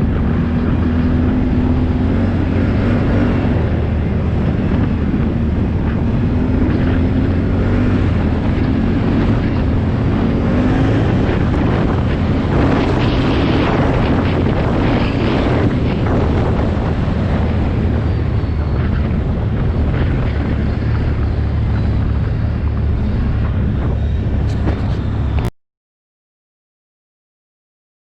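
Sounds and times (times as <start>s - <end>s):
atv engine running: 0.0s - 25.5s
wind noise on microphone: 0.0s - 25.5s.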